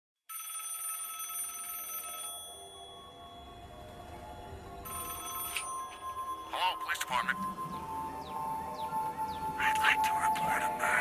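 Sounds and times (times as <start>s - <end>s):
telephone ringing: 0.3s - 11.0s.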